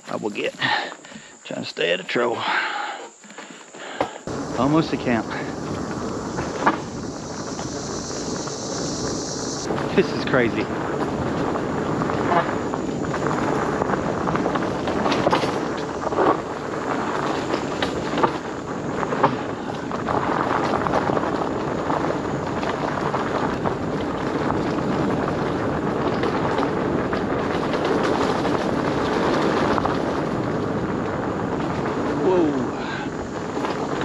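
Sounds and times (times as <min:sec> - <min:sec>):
e-bike rumbling and rattling: 0:02.4 - 0:34.0.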